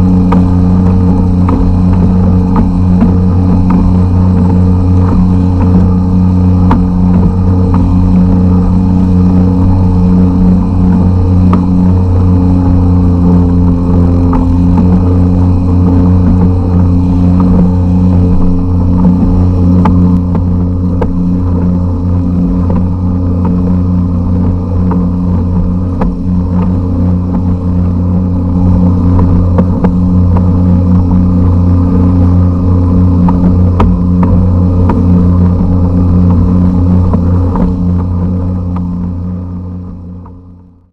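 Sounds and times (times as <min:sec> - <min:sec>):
outboard motor running: 0:00.0 - 0:40.9.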